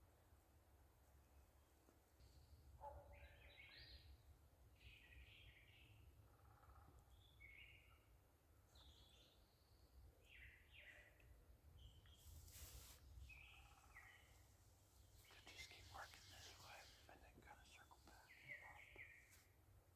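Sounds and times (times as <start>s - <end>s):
songbird chirping: 2.1s - 19.7s.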